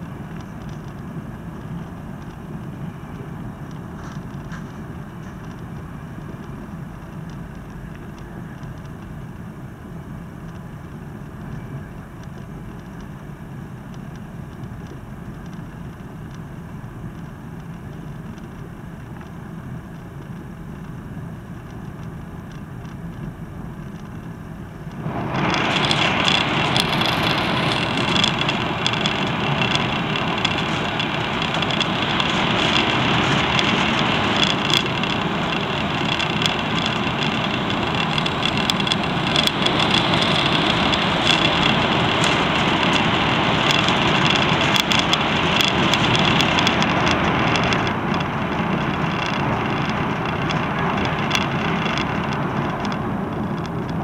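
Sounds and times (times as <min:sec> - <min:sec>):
train rumble inside cabin: 0:00.0 - 0:54.0.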